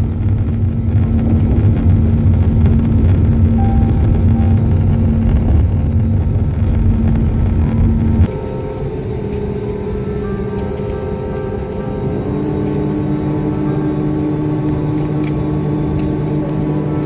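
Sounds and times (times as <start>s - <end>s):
aircraft cabin low rumble: 0.0s - 17.0s
jet engine tones: 0.2s - 17.0s.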